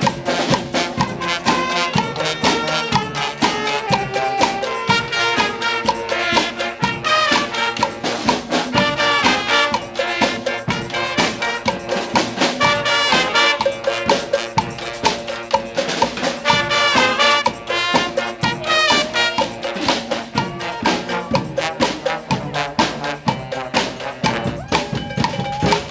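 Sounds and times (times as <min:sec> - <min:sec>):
steady drum beat: 0:00.0 - 0:25.9
trumpets and trombones: 0:00.0 - 0:25.9.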